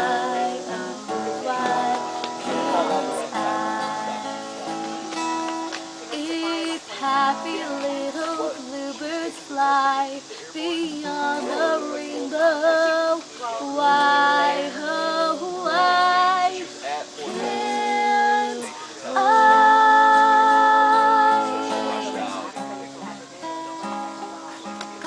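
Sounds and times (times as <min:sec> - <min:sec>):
woman singing: 0:00.0 - 0:04.8, 0:06.1 - 0:22.5
guitar: 0:00.0 - 0:25.0.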